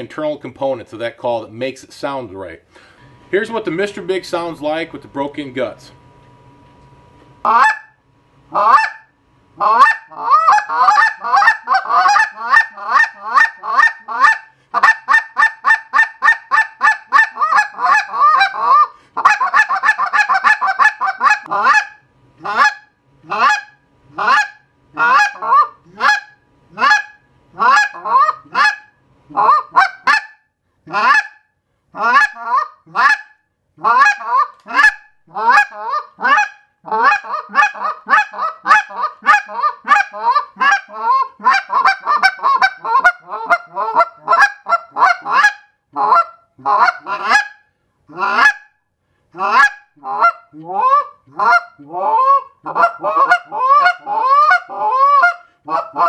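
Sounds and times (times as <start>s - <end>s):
goose call honks: 7.5s - 31.4s, 32.0s - 48.7s, 49.4s - 56.0s.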